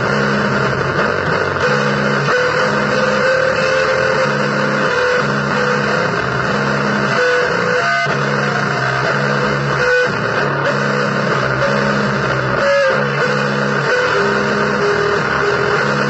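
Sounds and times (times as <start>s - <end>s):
blues guitar music: 0.0s - 16.0s.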